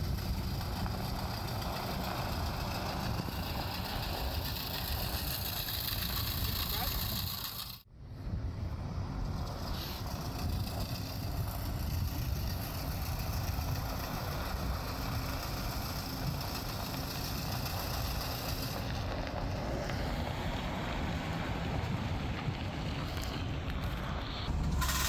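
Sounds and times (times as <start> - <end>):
truck engine and road rumble: 0.0 - 25.0.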